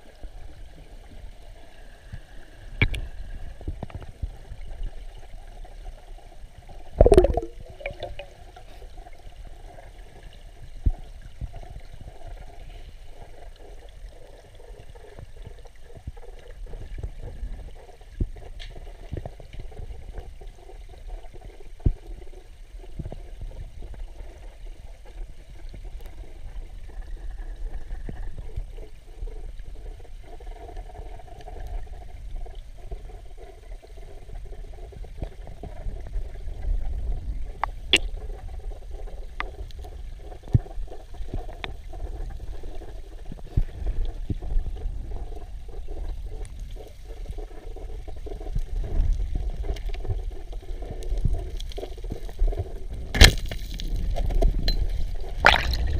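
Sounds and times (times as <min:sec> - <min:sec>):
underwater river current: 0:00.0 - 0:55.9.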